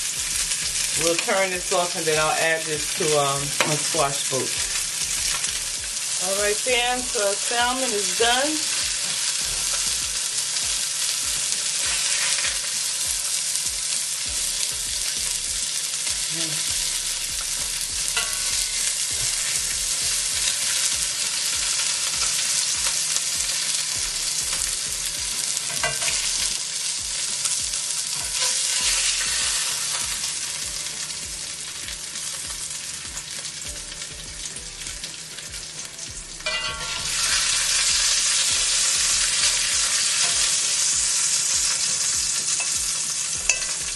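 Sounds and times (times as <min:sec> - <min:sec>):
oil sizzling in a frying pan: 0:00.0 - 0:43.9.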